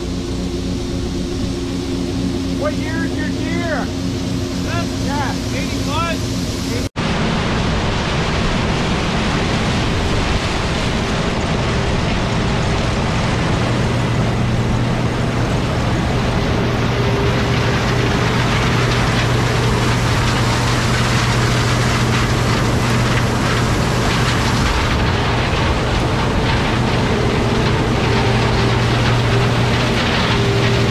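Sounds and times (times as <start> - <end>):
combine harvester engine and threshing: 0.0 - 30.9.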